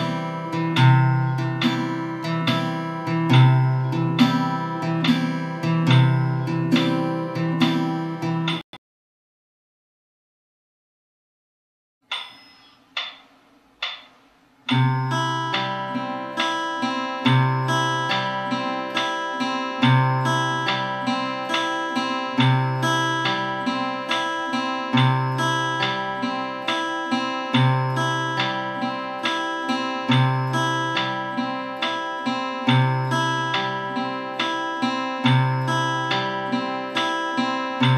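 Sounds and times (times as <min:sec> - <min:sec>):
fingerpicked acoustic guitar: 0:00.0 - 0:08.6, 0:14.7 - 0:37.9.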